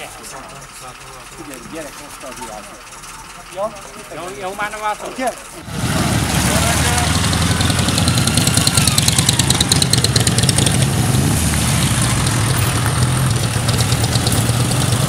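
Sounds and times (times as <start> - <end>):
motorcycle engine low hum: 0.0 - 15.0.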